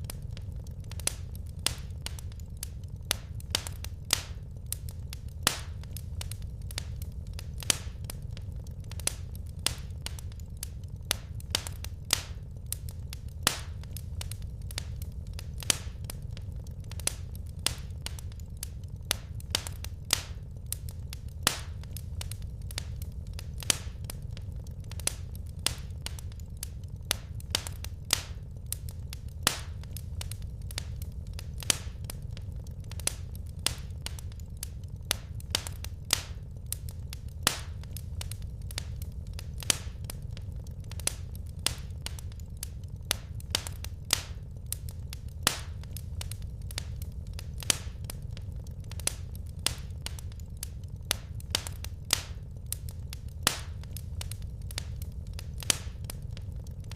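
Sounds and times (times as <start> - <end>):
low rumble of burning fire: 0.0 - 56.9
wood fire crackling and popping: 0.0 - 56.9.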